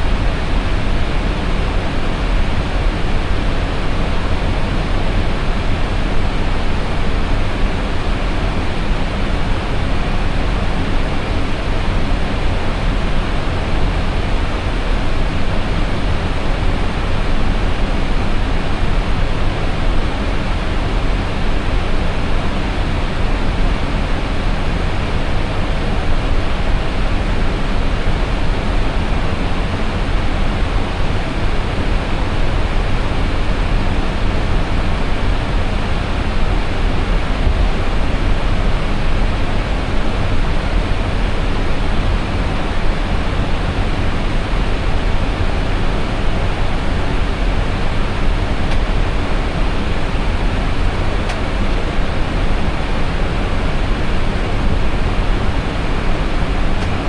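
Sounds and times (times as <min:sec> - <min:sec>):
aircraft cockpit noise: 0:00.0 - 0:57.0.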